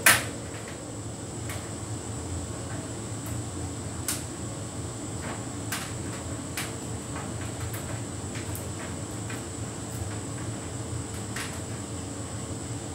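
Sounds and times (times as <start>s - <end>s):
tumble dryer humming: 0.0s - 12.9s.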